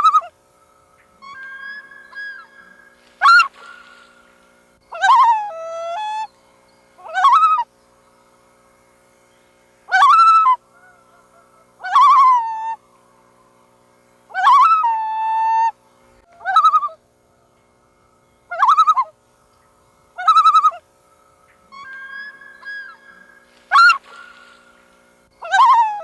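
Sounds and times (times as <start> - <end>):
loons calling: 0.0 - 26.0.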